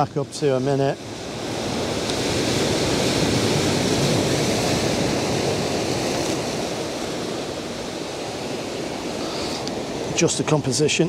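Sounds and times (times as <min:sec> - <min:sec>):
ocean surf over boulders: 0:00.0 - 0:11.0.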